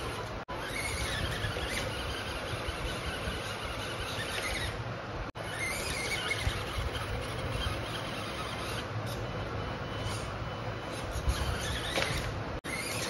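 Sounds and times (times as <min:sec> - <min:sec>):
toy car motor and gears: 0:00.0 - 0:04.8, 0:05.4 - 0:13.0.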